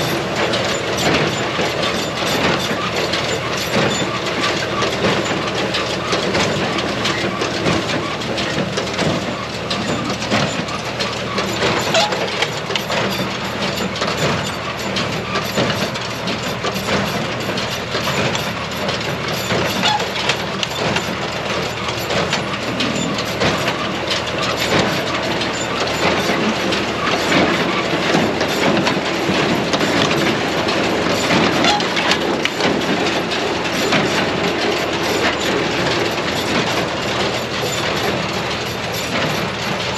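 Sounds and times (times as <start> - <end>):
baler mechanism clattering: 0.0 - 39.9
tractor engine running: 0.0 - 39.9.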